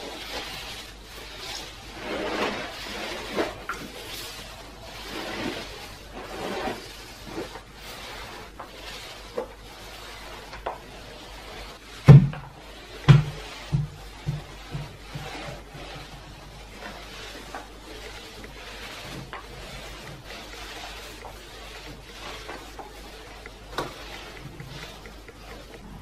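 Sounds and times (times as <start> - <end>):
mop swishing over floor: 0.0 - 26.0.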